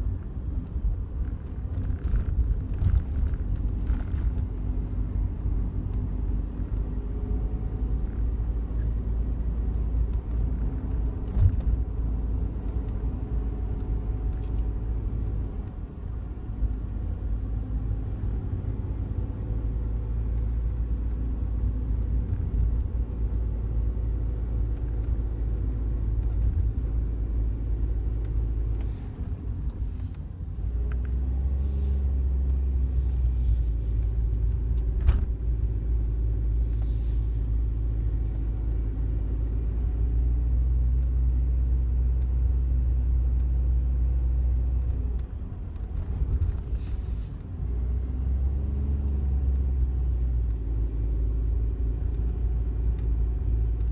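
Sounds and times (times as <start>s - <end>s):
engine and road rumble in car: 0.0s - 53.9s.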